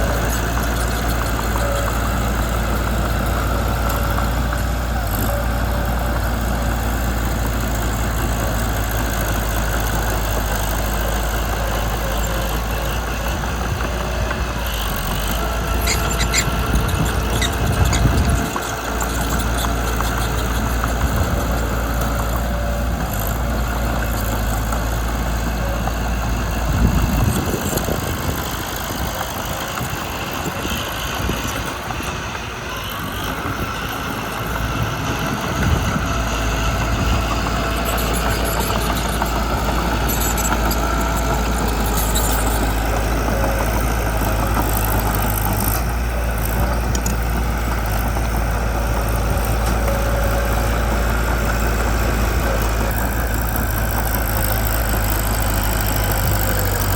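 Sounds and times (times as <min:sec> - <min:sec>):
bulldozer diesel engine rumbling: 0:00.0 - 0:56.9.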